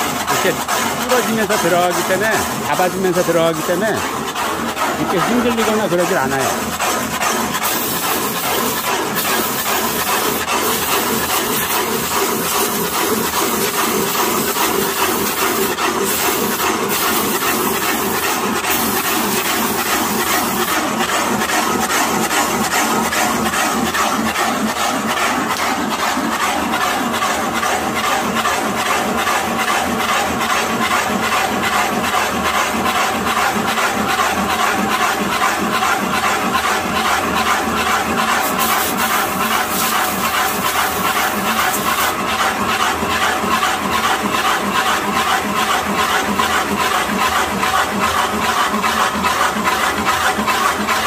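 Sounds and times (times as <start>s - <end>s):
lathe cutter boring into wood: 0.0s - 51.0s.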